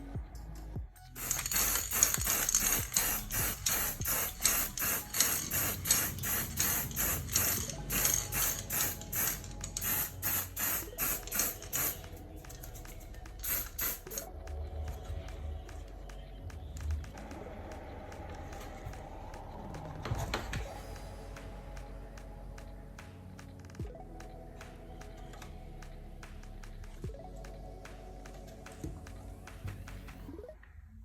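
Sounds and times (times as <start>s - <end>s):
background music with shaker beat: 0.0s - 30.8s.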